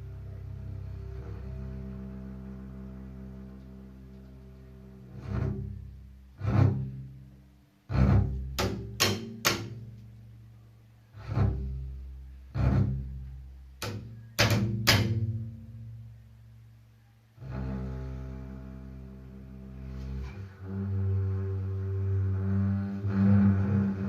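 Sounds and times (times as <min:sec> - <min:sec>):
low string instrument notes: 0:00.0 - 0:24.0.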